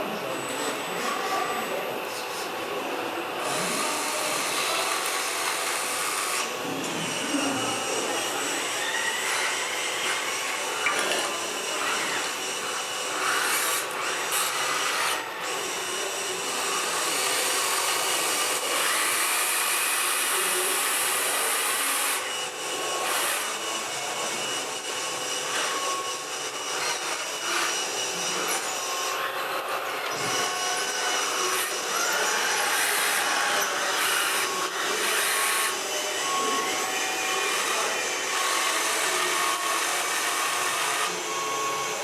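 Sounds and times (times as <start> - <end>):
small electric motors whirring: 0.0 - 42.0.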